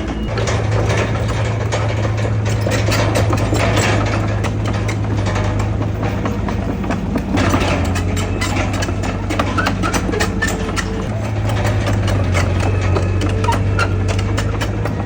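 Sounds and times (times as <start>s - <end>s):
heavy diesel machinery running: 0.0s - 15.0s
metallic clanks and rattles: 0.0s - 15.0s.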